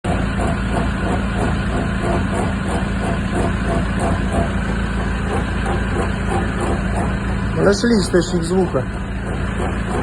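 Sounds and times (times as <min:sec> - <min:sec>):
van engine hum: 0:00.0 - 0:10.0
rhythmic wheel rubbing noise: 0:00.1 - 0:10.0.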